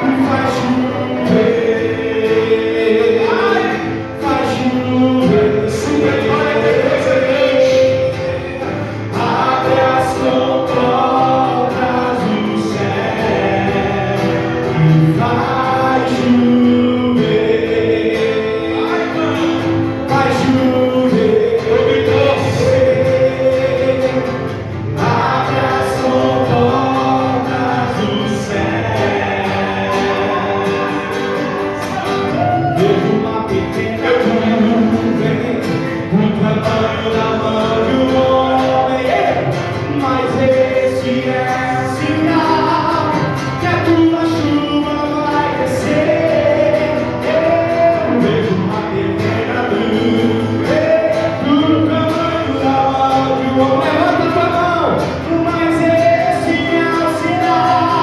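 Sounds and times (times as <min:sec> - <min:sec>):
voices singing together: 0:00.0 - 0:58.0.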